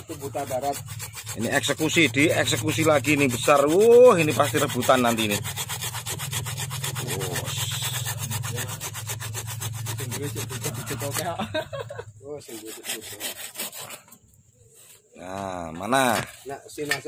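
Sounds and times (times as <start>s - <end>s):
saw cutting through branch: 0.0s - 14.2s.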